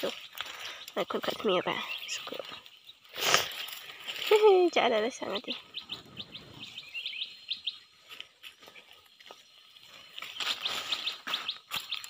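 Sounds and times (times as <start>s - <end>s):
leaves rustling: 0.0s - 12.0s
small bird chirping: 0.0s - 12.0s.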